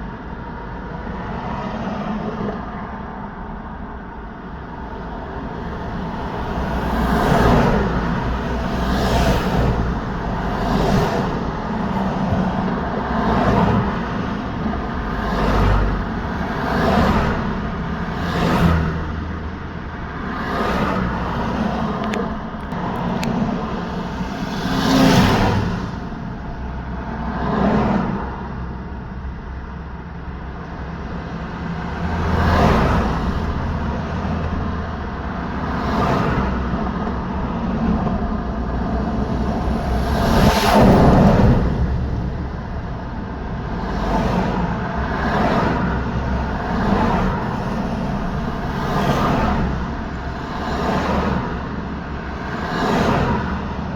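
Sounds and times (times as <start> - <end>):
constant low traffic rumble: 0.0 - 53.9
vehicles passing: 0.0 - 53.9.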